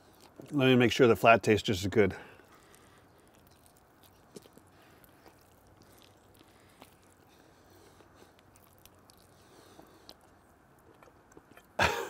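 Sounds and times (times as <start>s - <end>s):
chewing with soft crunches: 0.0s - 11.8s.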